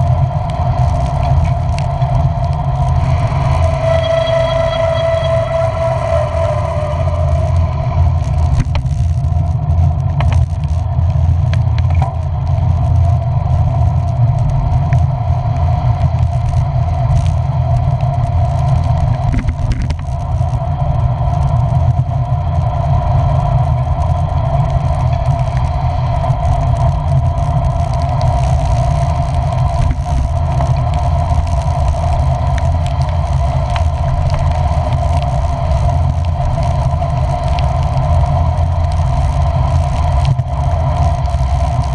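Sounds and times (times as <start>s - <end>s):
mid-pitched hum: 0.0s - 41.9s
vehicle running rumble: 0.0s - 41.9s.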